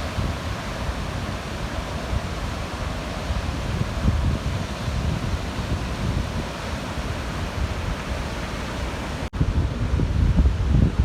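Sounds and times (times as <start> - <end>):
stormy surf on beach: 0.0 - 11.0
wind buffeting microphone: 0.0 - 11.0.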